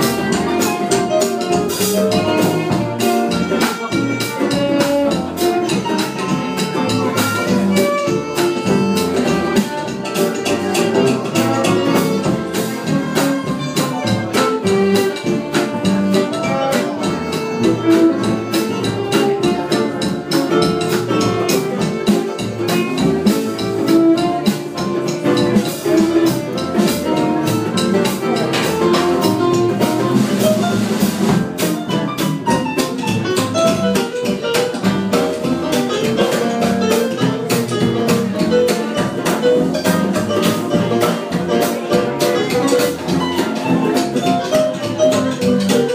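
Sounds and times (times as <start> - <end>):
small jazz band playing: 0.0 - 45.9
violin lead: 0.0 - 45.9.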